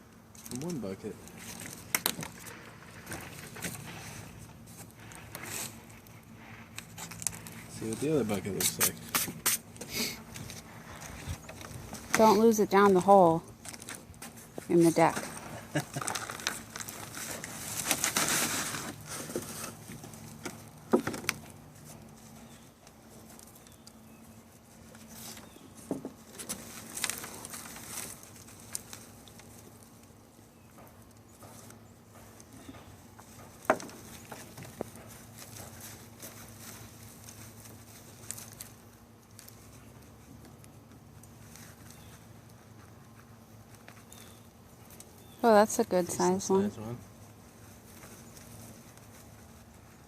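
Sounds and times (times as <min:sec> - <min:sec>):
soil rustling and pattering: 0:00.3 - 0:50.0.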